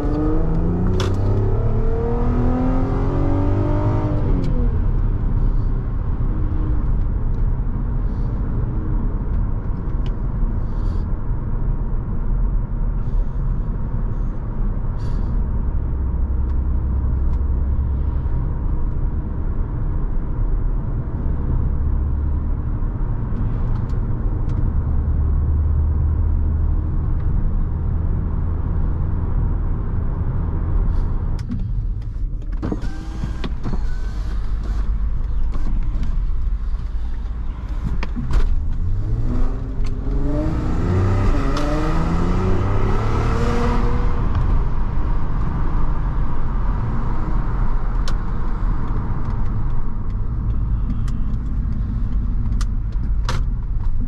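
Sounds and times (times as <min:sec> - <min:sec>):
car engine droning: 0:00.0 - 0:54.0
road rumble: 0:00.0 - 0:54.0.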